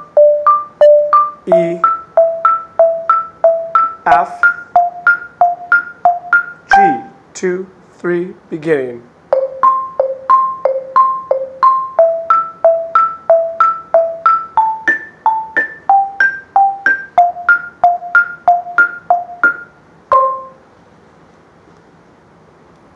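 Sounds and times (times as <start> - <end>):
xylophone struck with mallets: 0.0 - 7.2, 9.3 - 20.6.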